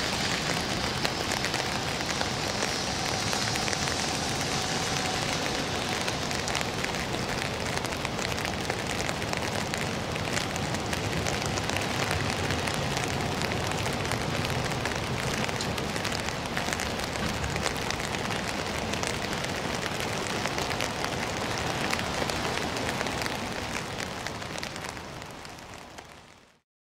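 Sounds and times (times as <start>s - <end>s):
freight train rumbling: 0.0s - 25.1s.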